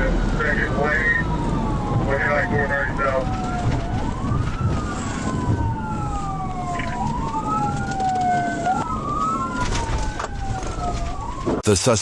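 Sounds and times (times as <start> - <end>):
police siren wailing: 0.0 - 11.6
road and engine noise: 0.0 - 12.0.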